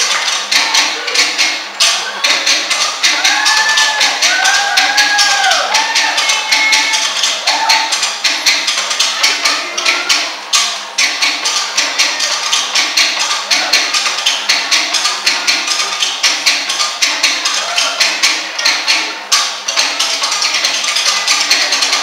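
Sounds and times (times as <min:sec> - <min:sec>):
fast wooden slit drum strokes: 0:00.0 - 0:22.0.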